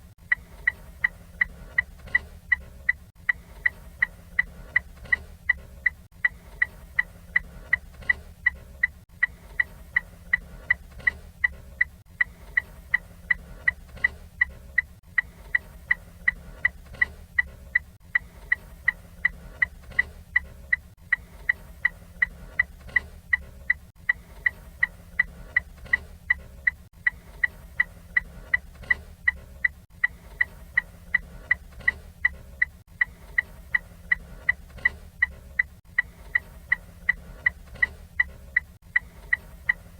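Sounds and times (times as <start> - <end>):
turn signal ticking: 0.0 - 39.9.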